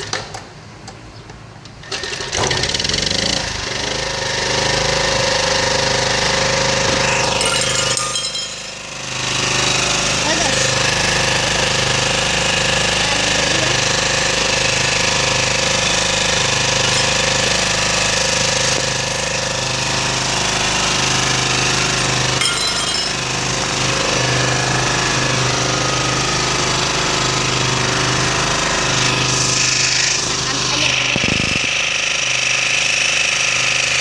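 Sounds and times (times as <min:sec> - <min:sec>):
generator engine running: 0:02.2 - 0:34.0.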